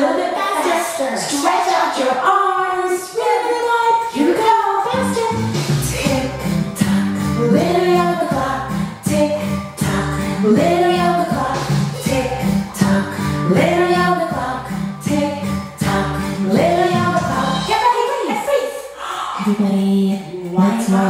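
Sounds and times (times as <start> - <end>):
woman singing over a beat: 1.2 - 18.1, 19.2 - 21.0.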